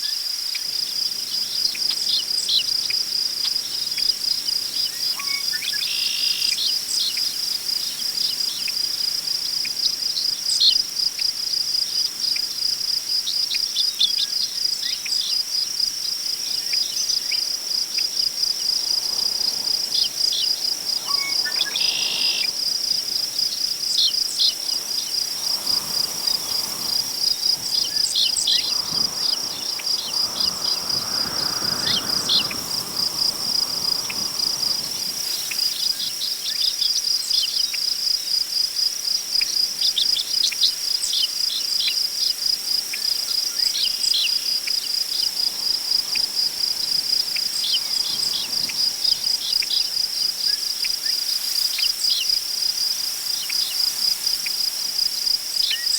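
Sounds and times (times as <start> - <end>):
crickets chirping: 0.0 - 55.9
wind rustling tall grass: 0.0 - 55.9.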